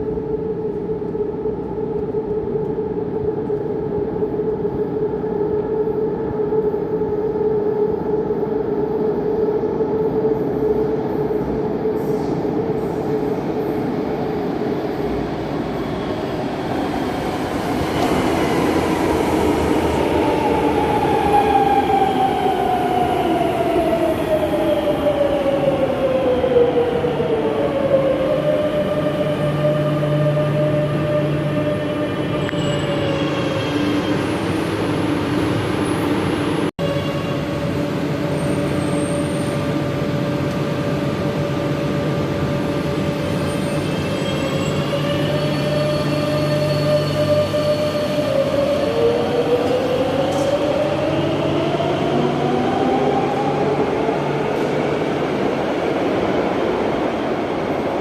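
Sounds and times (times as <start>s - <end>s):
rumble of train cars: 0.0s - 58.0s.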